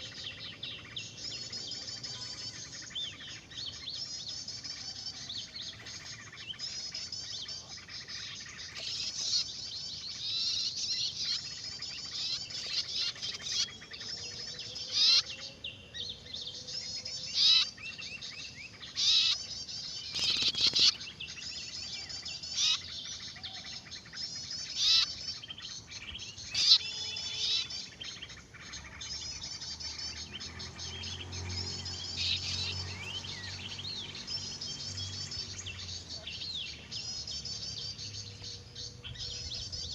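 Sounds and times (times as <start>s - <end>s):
loud sharp bird chirps: 0.0s - 39.9s
songbirds chirping and trilling: 0.0s - 39.9s.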